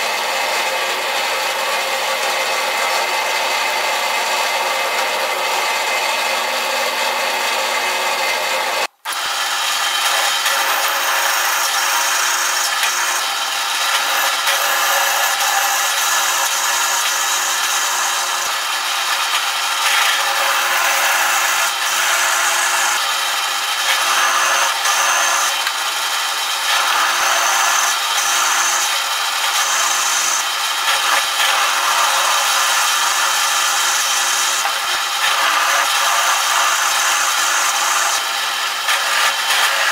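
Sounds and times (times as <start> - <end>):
drill press cutting steel: 0.0 - 39.9.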